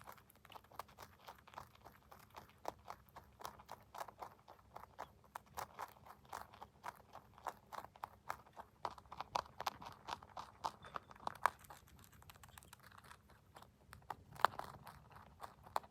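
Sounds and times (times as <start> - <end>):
rabbit crunching dry pellets: 0.0 - 15.9.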